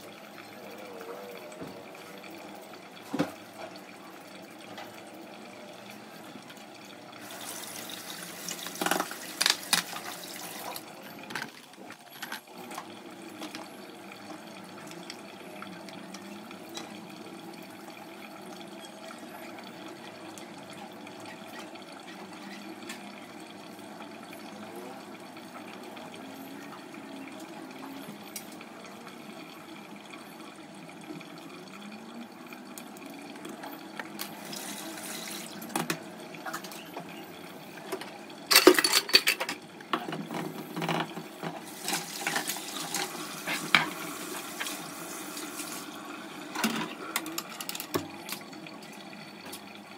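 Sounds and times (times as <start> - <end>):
water running from tap: 0.0 - 49.9.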